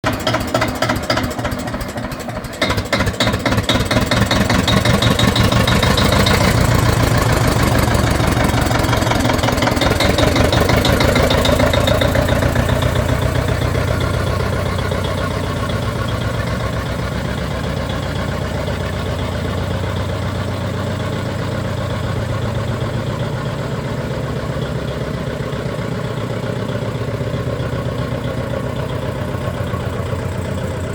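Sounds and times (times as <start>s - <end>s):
tractor diesel engine knocking: 0.0s - 30.9s.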